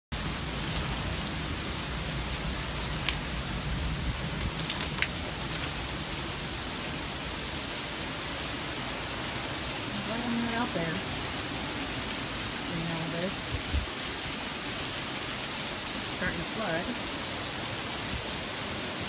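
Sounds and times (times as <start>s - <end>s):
heavy rain: 0.1s - 19.0s.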